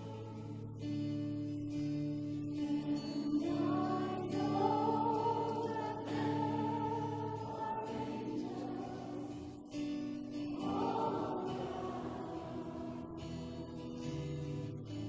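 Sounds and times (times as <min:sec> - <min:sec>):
worship song sung with music: 0:00.0 - 0:15.0.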